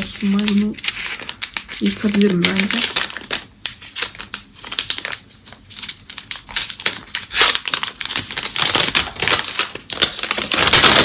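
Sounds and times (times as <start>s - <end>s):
paper wrapping tearing and crinkling: 0.0s - 11.0s.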